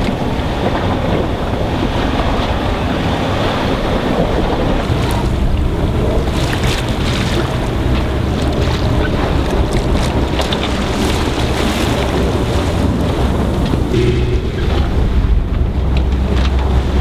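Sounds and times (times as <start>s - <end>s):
choppy water along boat hull: 0.0s - 17.0s
water splashes: 0.0s - 17.0s
wind buffeting microphone: 0.0s - 17.0s.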